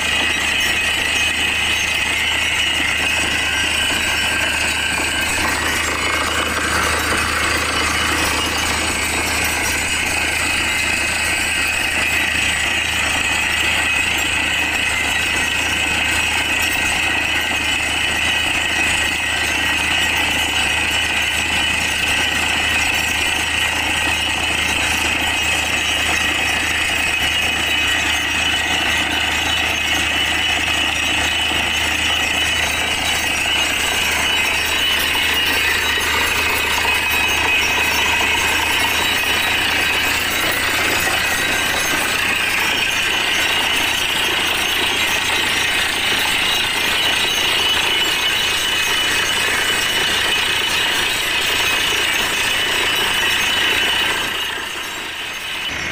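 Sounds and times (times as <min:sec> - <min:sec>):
drilling rig running: 0:00.0 - 0:55.9.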